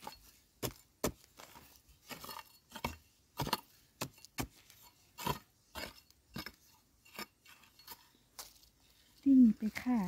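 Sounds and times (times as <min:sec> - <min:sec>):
digging tool striking stony soil: 0:00.0 - 0:08.7.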